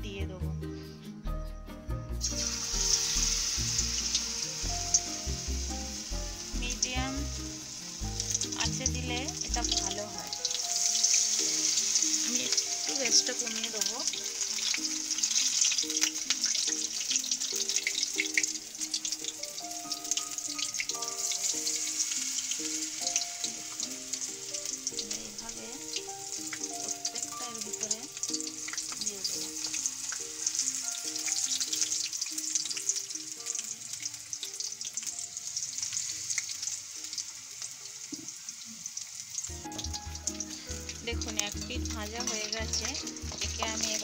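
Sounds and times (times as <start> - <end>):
background music: 0.0 - 38.1, 39.4 - 44.0
deep-frying sizzle and crackling: 2.1 - 44.0.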